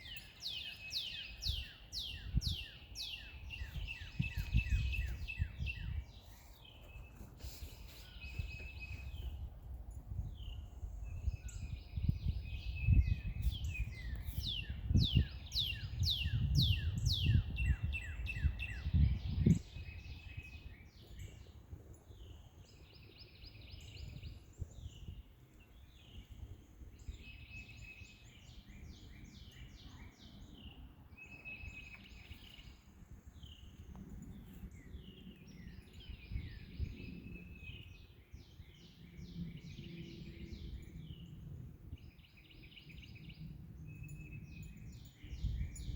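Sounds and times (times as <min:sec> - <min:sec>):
songbirds singing: 0:00.0 - 0:09.6, 0:10.2 - 0:45.9
low wind rumble on microphone: 0:00.0 - 0:45.9.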